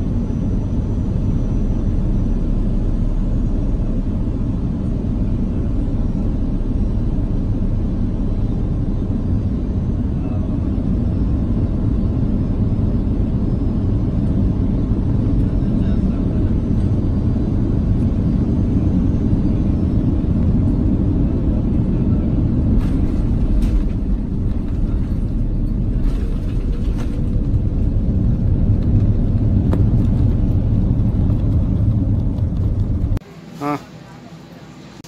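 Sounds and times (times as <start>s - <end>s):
wheel rumble on runway: 0.0s - 33.2s
jet engine rumble in cabin: 0.0s - 35.0s.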